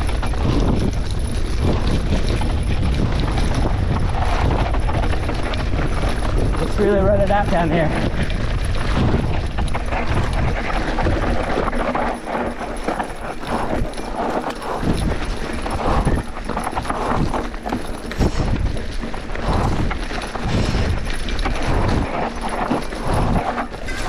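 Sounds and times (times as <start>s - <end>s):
bike rattling and knocking: 0.0s - 24.0s
bike tyres on dirt: 0.0s - 24.0s.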